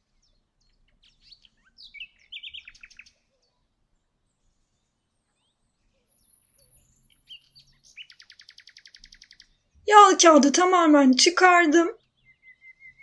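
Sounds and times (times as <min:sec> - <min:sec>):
faint bird chirping: 0:00.0 - 0:10.0, 0:11.8 - 0:13.0.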